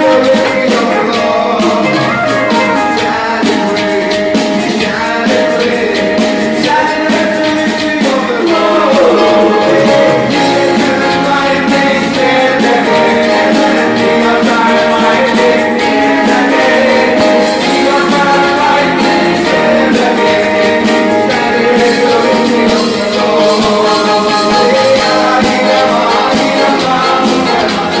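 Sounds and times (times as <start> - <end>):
keyboard: 0.0 - 28.0
people singing: 0.0 - 28.0
percussion beat: 0.0 - 28.0.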